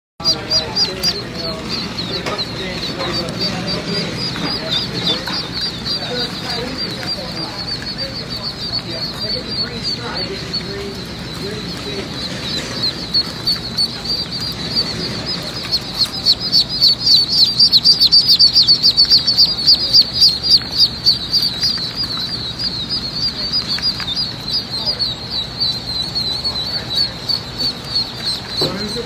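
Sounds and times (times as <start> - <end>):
ducklings peeping: 0.2 - 29.0.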